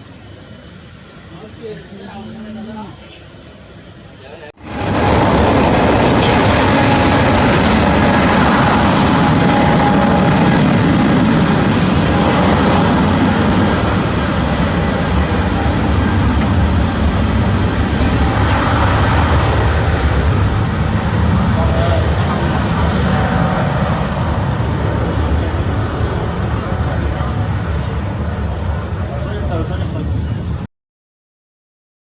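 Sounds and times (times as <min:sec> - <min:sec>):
faint engine whine: 0:00.0 - 0:30.7
jet engines at takeoff power: 0:03.5 - 0:30.7.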